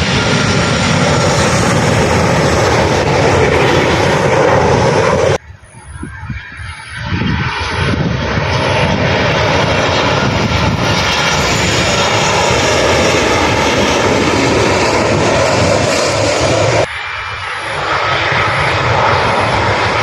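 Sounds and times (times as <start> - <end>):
jet engines passing: 0.0 - 20.0.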